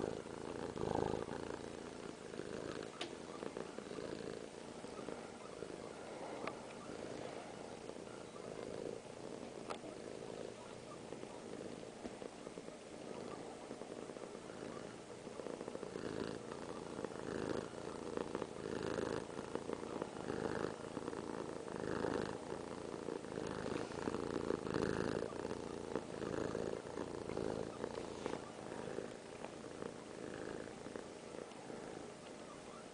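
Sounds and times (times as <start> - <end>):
cat purring: 0.0 - 32.9.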